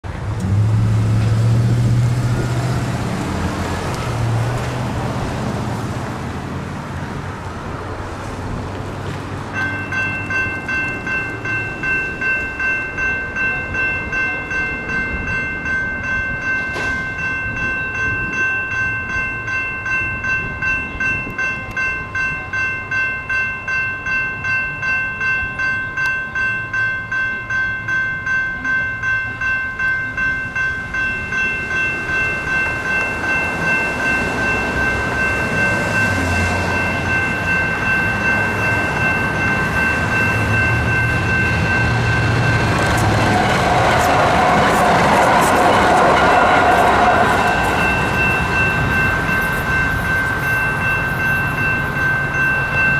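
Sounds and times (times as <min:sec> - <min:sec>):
train rumble: 0:00.0 - 0:52.9
railroad crossing bell ringing: 0:00.3 - 0:52.9.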